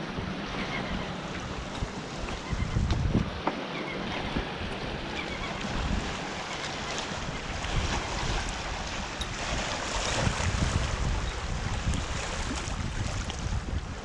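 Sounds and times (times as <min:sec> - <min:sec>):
sea surf: 0:00.0 - 0:14.0
wind on microphone: 0:00.0 - 0:14.0.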